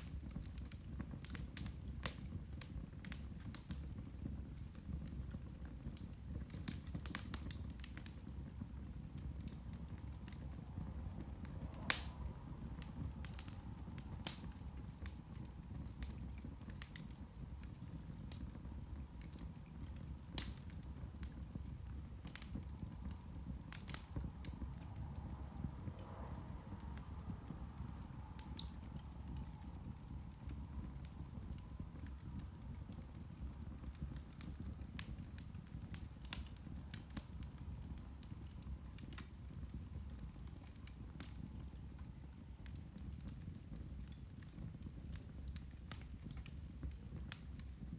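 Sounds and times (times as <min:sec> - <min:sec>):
fire crackling and popping: 0:00.0 - 0:47.9
low steady rumble: 0:00.0 - 0:47.9.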